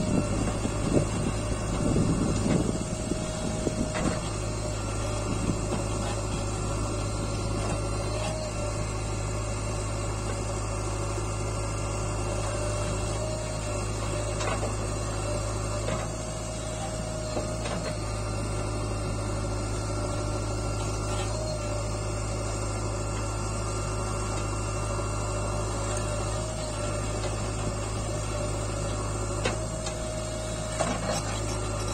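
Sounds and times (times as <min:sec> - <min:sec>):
diesel engine running under load: 0:00.0 - 0:31.9.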